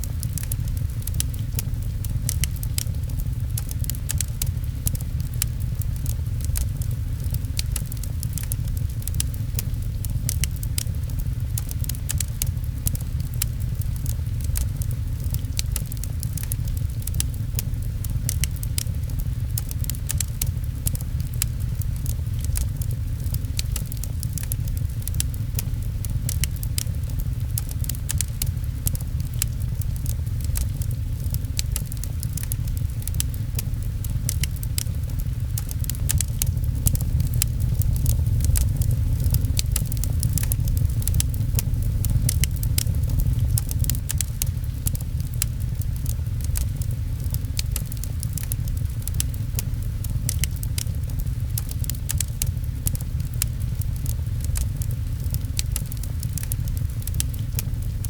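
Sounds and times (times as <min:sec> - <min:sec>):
fireplace crackling and popping: 0:00.0 - 0:58.0
rain rushing: 0:00.0 - 0:58.0.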